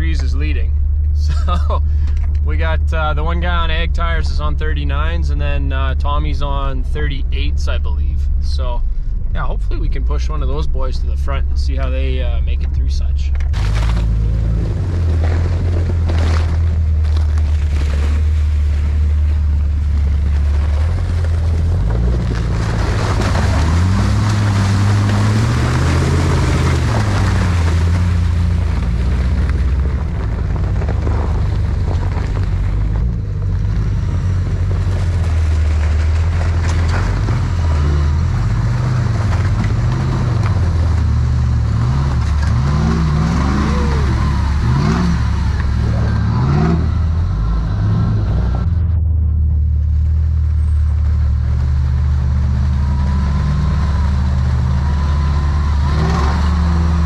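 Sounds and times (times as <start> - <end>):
off-road vehicle engine revving: 0.0 - 57.0
steady rushing drive noise: 0.0 - 57.0.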